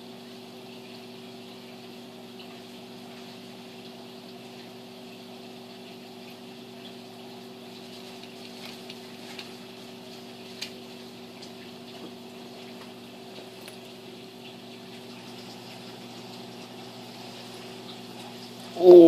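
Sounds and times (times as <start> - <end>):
aquarium pump hum and water hiss: 0.0 - 19.0.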